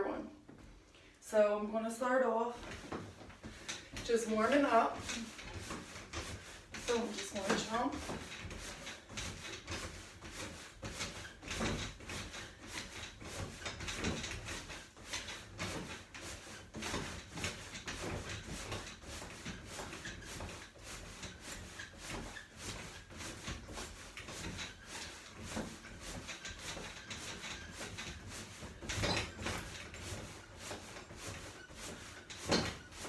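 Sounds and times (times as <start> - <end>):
trampoline bouncing thumps: 2.5 - 33.0
trampoline springs creaking: 2.5 - 33.0.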